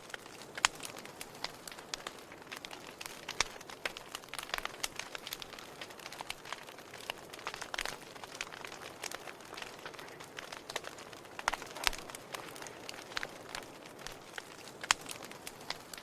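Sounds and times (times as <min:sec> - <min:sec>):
soft steady fire hiss: 0:00.0 - 0:16.0
wood fire crackling: 0:00.0 - 0:16.0.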